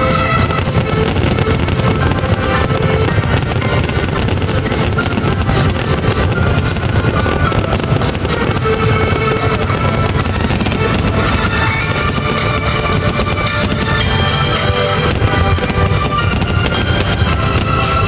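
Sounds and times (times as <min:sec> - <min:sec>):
fireworks bursting and crackling: 0:00.0 - 0:18.0
music playing: 0:00.0 - 0:18.0.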